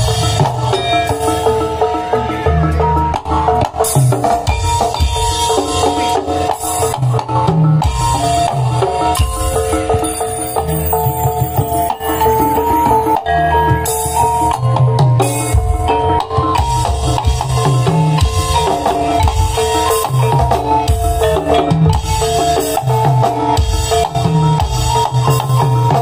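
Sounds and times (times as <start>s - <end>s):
drums driving beat: 0.0s - 26.0s.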